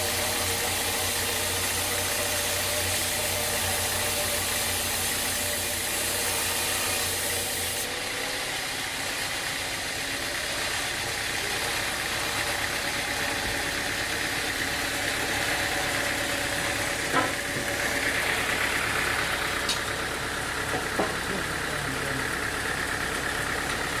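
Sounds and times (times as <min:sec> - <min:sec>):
sawmill machinery drone: 0:00.0 - 0:24.0.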